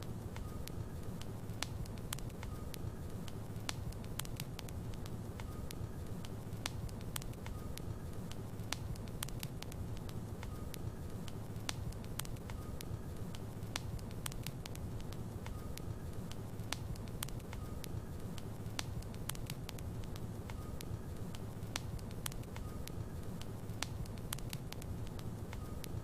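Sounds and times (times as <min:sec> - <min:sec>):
fire popping and crackling: 0:00.0 - 0:26.0.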